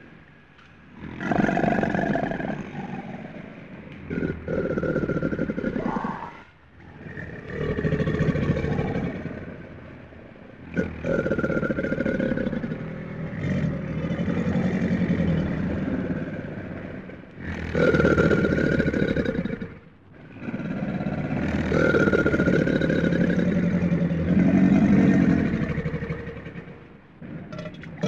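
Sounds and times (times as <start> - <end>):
crocodile growling: 0.9 - 9.9, 10.6 - 28.0.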